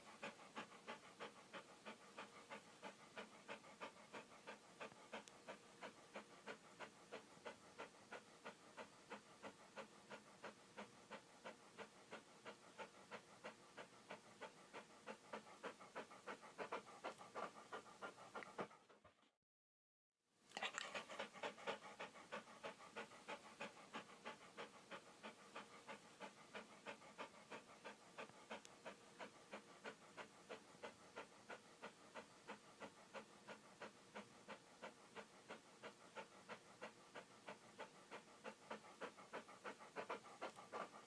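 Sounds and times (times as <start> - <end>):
dog panting: 0.0 - 19.4, 20.5 - 41.0.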